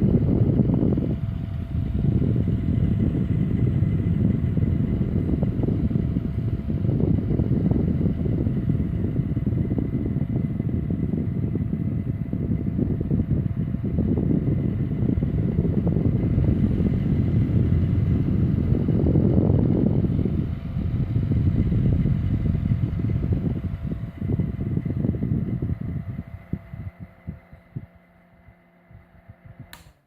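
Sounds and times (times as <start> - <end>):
electric fan running: 0.0 - 30.0.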